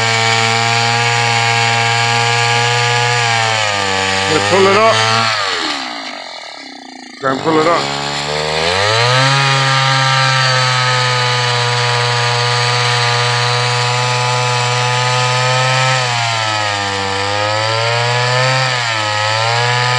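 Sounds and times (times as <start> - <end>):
ice auger engine revving: 0.0 - 19.9.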